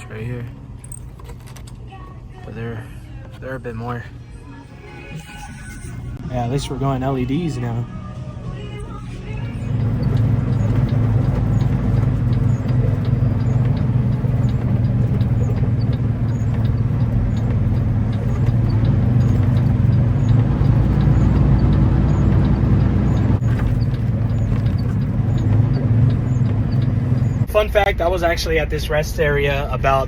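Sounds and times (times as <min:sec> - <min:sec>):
diesel truck engine droning: 0:02.6 - 0:30.0.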